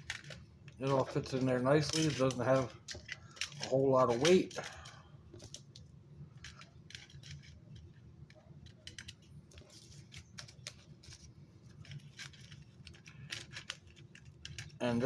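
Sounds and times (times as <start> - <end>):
small items clicking in tin: 0.0 - 15.0.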